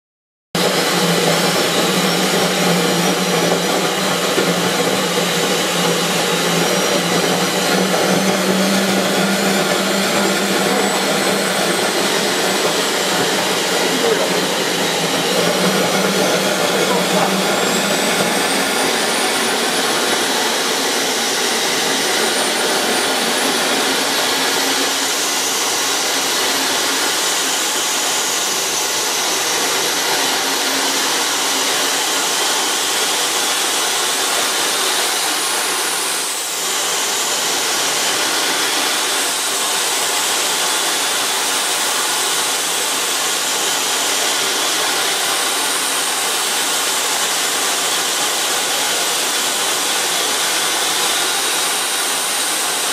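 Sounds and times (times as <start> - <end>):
turbojet engine rushing and whining: 0.6 - 52.9.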